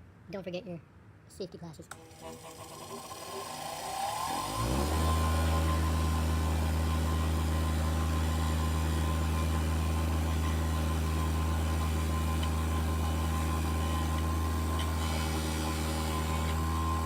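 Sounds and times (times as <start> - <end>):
bench grinder running: 1.9 - 17.0.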